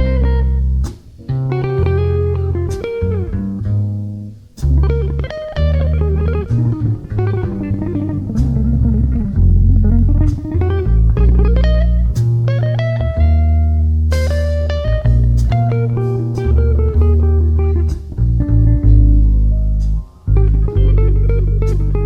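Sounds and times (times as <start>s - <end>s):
bass guitar low notes: 0.0s - 22.0s
bending guitar melody: 0.0s - 22.0s.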